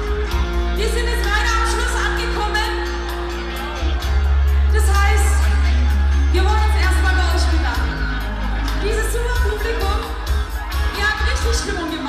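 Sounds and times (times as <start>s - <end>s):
live band playing amplified music: 0.0s - 12.0s.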